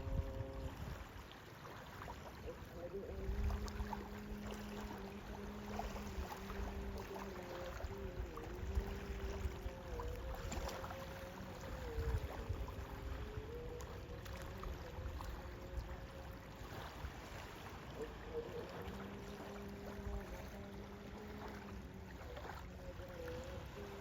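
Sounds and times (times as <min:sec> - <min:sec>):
low rumble of sea: 0:00.0 - 0:24.0
distant call to prayer: 0:02.3 - 0:24.0.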